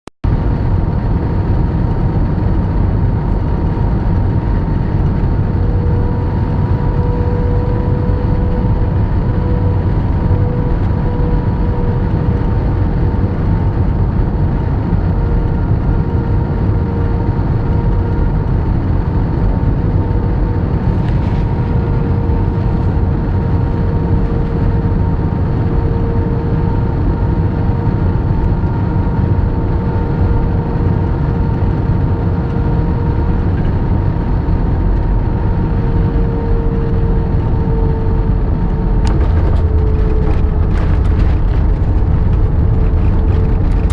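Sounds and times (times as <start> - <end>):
airflow and jet engine rush: 0.2 - 43.9
faint steady whine: 0.3 - 43.9.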